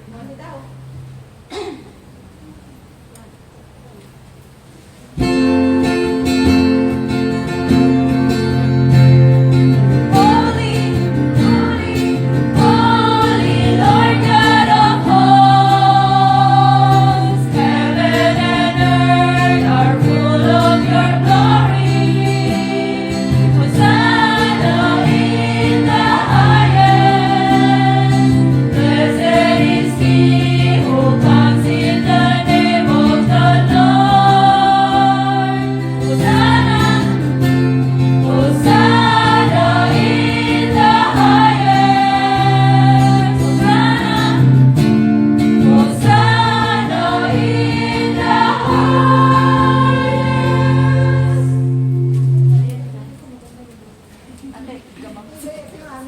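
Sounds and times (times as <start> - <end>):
choir singing a hymn: 5.2 - 52.6
guitar accompaniment: 5.2 - 54.2.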